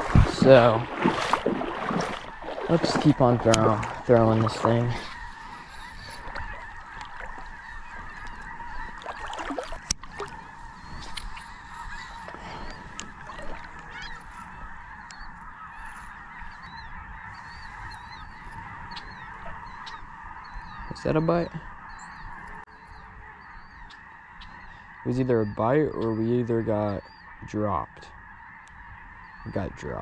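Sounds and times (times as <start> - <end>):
distant bird calls: 0.0 - 30.0.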